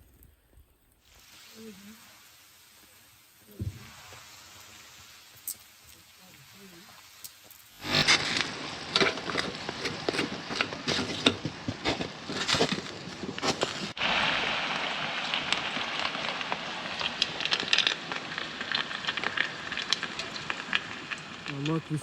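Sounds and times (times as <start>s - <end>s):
steady hiss: 0.0s - 22.0s
wood stove crackling and popping: 0.0s - 22.0s.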